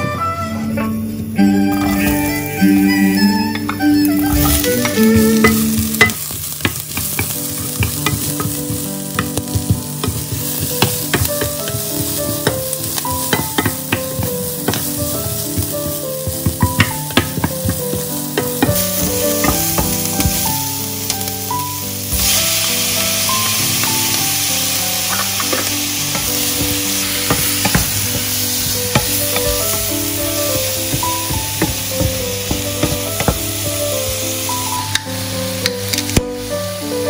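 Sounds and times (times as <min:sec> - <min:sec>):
onion sizzling in hot oil: 0:00.8 - 0:37.0
wooden spatula scraping pan: 0:01.7 - 0:22.8, 0:23.4 - 0:35.0.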